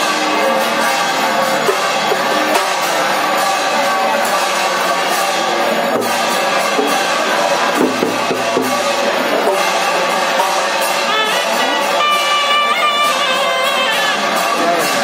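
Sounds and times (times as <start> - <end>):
horn-like wind instruments: 0.0 - 15.0
drumming: 0.9 - 15.0.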